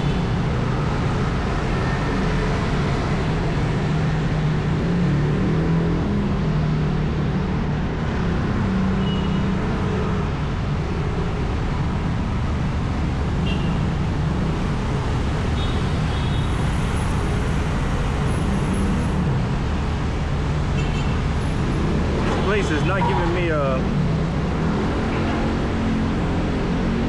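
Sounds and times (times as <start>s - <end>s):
road traffic engines: 0.0s - 27.0s
tyres on the road: 0.0s - 27.0s.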